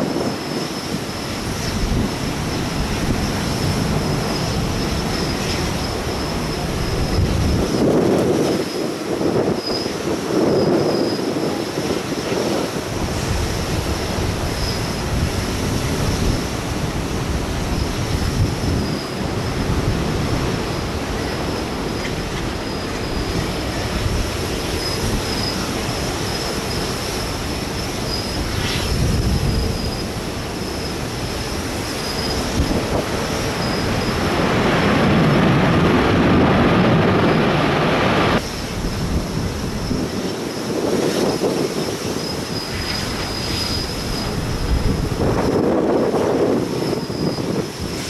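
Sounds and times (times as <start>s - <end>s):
jet engines roaring: 0.0s - 48.0s
wind buffeting microphone: 0.0s - 48.0s.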